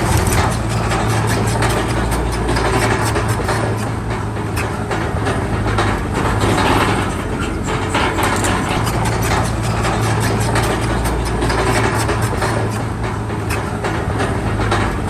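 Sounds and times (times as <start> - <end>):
heavy diesel machinery humming: 0.0 - 15.0
metallic clicks and clanks: 0.0 - 15.0.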